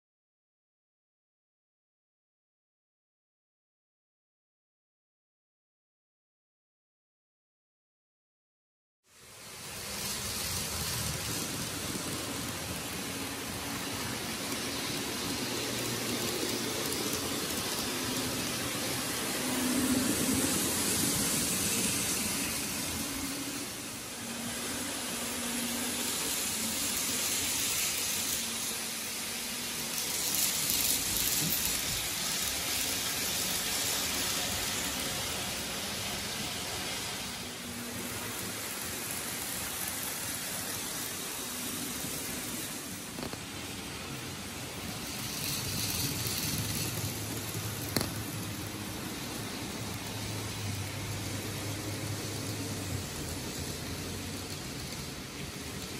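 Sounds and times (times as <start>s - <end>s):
model trains running on track: 9.1s - 55.9s.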